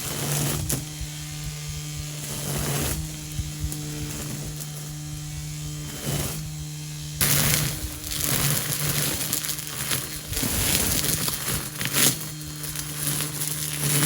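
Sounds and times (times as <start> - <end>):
electric pump humming: 0.0 - 14.0.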